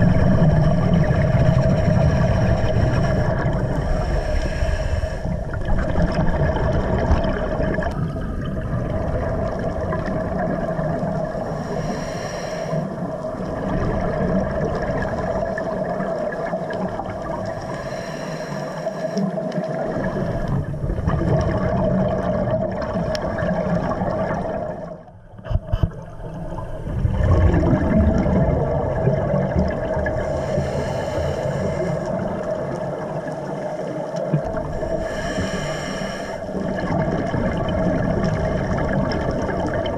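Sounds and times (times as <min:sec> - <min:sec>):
gurgling water: 0:00.0 - 0:39.9
muffled underwater rumble and hum: 0:00.0 - 0:39.9.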